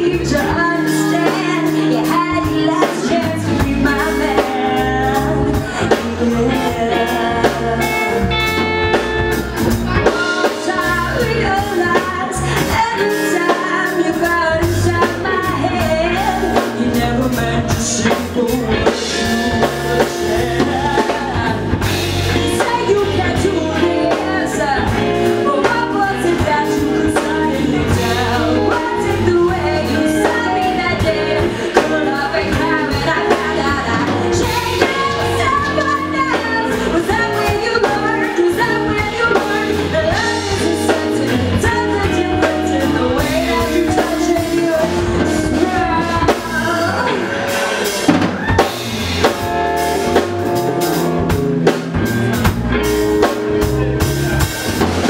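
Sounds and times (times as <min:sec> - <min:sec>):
drum kit: 0:00.0 - 0:55.0
electric bass: 0:00.0 - 0:55.0
electric guitar: 0:00.0 - 0:55.0
woman singing lead: 0:00.0 - 0:55.0.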